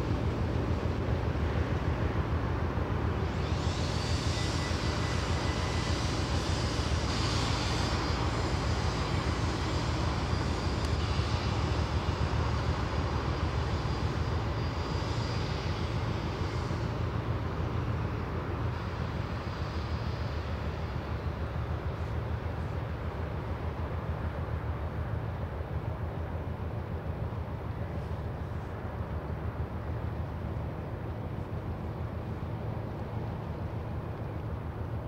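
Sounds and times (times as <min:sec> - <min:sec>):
ship engine drone: 0:00.0 - 0:35.0.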